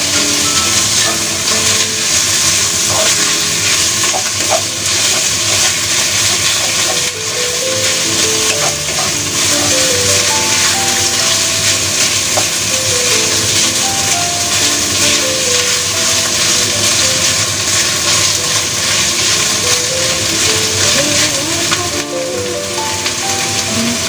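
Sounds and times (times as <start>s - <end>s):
spatula stirring: 0.0s - 22.2s
background music melody: 0.0s - 24.0s
meat sizzling in a wok: 0.0s - 24.0s.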